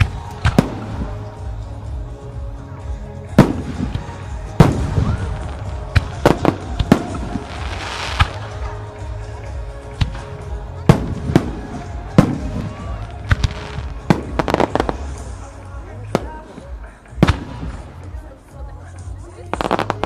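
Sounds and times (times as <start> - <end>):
fireworks bursting with loud bangs: 0.0 - 1.7, 3.3 - 18.4, 19.5 - 20.0
music with sustained tones: 0.0 - 20.0.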